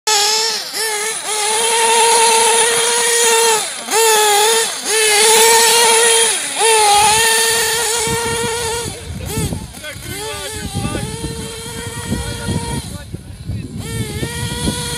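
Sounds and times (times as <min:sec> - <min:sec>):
small engine whining at high revs: 0:00.1 - 0:14.9.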